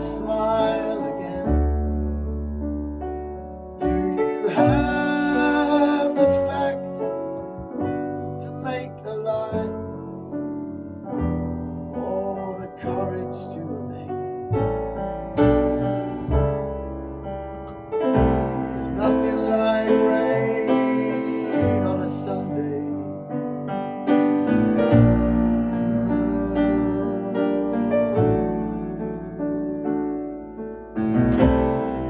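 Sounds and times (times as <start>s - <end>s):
slow piano ballad: 0.0s - 32.0s.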